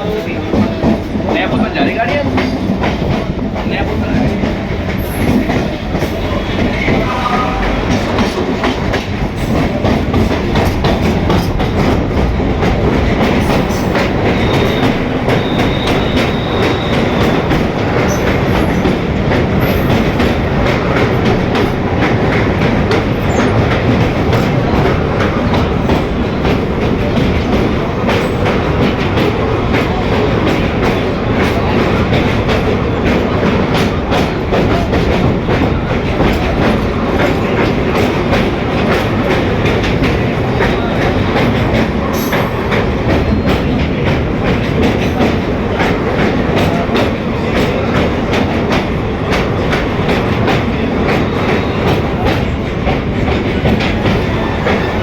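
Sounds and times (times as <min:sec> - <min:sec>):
train rumbling on a rail bridge: 0:00.0 - 0:55.0.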